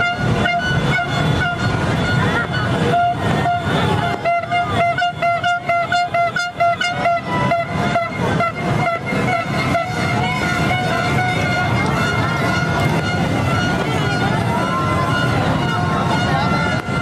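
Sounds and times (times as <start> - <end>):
crowd noise: 0.0 - 17.0
other party horns: 0.0 - 17.0
party horn tooting: 0.0 - 17.0.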